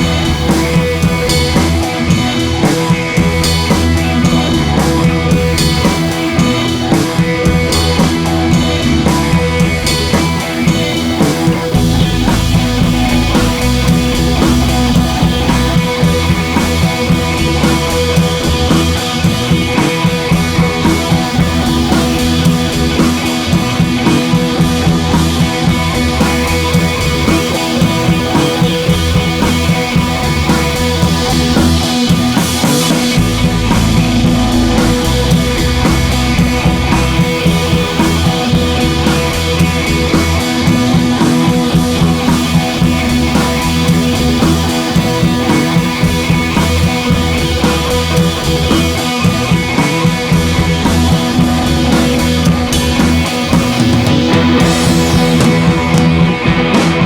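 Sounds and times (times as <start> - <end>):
instrumental rock music: 0.0 - 57.0.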